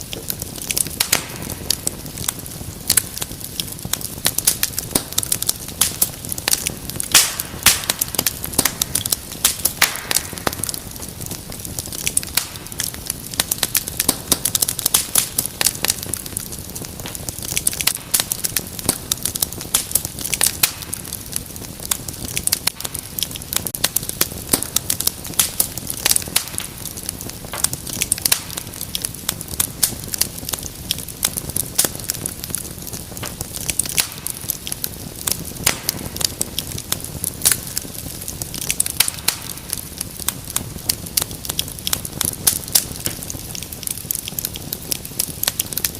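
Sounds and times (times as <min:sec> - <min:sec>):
low rumble of flame: 0:00.0 - 0:45.9
wood fire crackling: 0:00.0 - 0:45.9.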